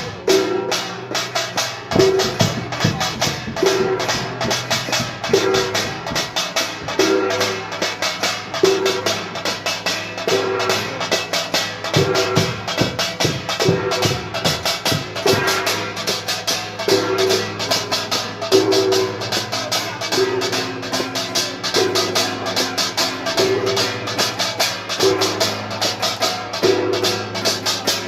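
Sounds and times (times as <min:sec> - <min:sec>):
percussion ensemble playing: 0:00.0 - 0:28.0.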